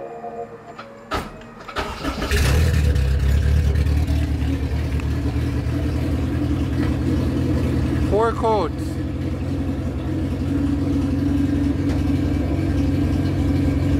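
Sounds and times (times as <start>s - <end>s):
car engine cranking and starting: 0.6s - 13.9s
car engine idling: 0.9s - 13.9s.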